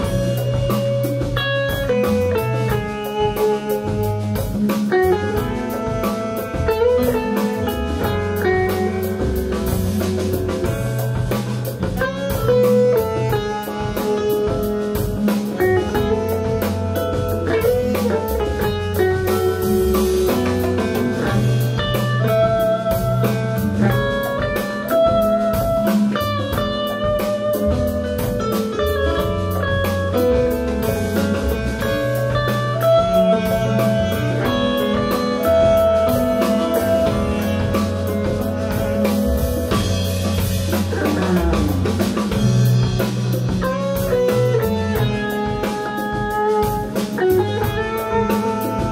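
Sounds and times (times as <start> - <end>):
electric guitar: 0.0 - 48.9
live band playing: 0.0 - 48.9.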